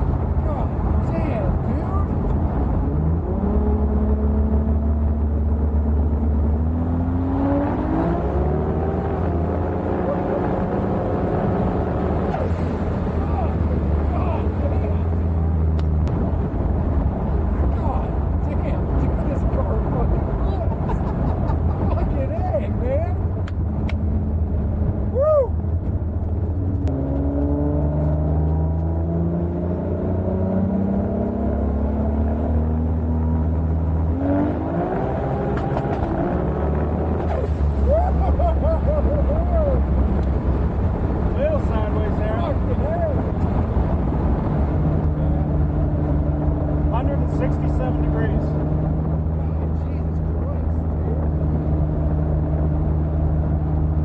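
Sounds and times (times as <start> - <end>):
car engine rumble from inside: 0.0 - 54.0.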